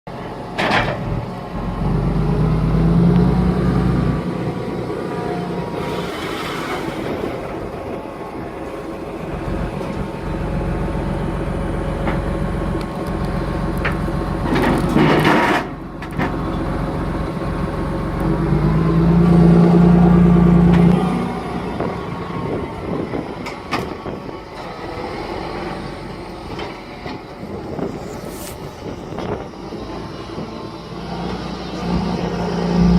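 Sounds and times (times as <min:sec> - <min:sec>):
tractor diesel engine running: 0:00.1 - 0:32.9.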